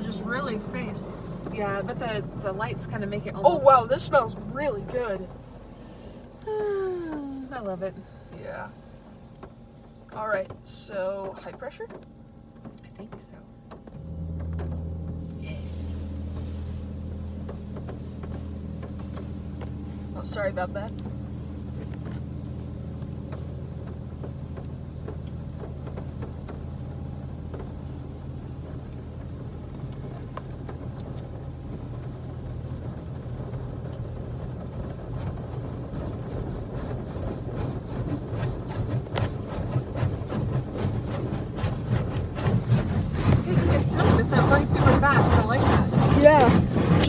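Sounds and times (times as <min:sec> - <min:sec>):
car cabin low hum: 0:00.0 - 0:47.0
water jets spraying car: 0:00.0 - 0:47.0.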